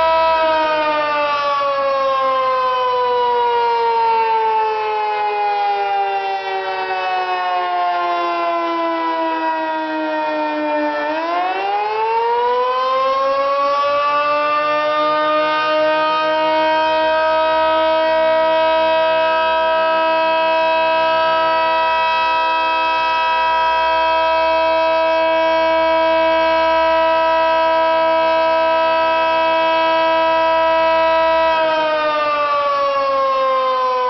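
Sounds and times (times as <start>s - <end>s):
three-tone warning siren: 0.0s - 34.0s.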